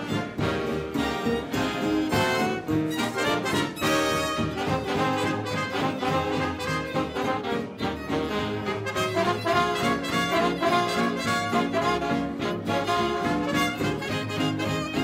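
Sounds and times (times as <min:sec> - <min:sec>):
big band playing: 0:00.0 - 0:15.0
rhythm section: 0:00.0 - 0:15.0
saxophones: 0:00.0 - 0:15.0
trumpets and trombones: 0:00.0 - 0:15.0.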